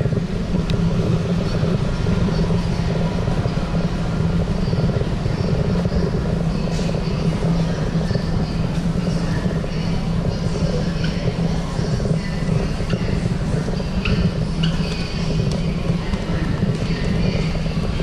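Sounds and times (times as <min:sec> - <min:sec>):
constant hum: 0:00.0 - 0:18.0
low rumble: 0:00.0 - 0:18.0.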